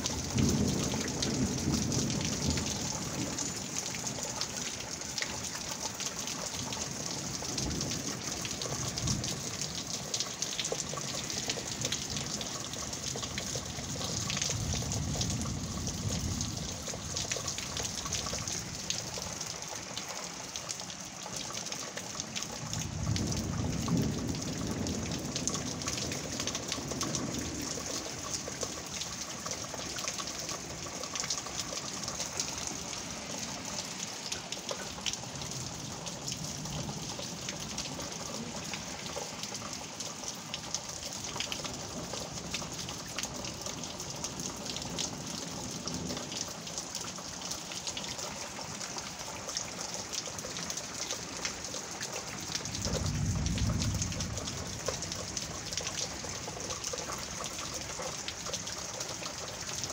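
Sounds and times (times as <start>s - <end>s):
close raindrops ticking: 0.0s - 59.9s
steady rain falling: 0.0s - 59.9s.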